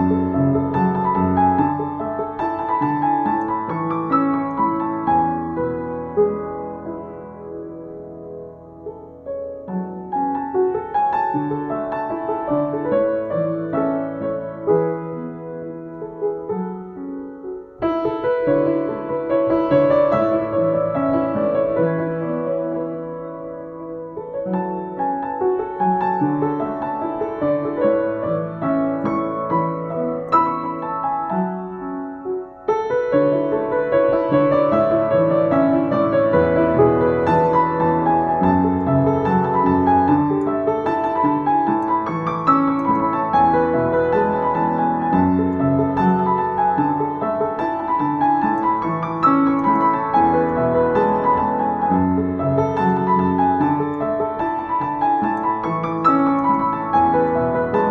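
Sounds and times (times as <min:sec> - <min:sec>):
upright piano playing: 0:00.0 - 0:57.9.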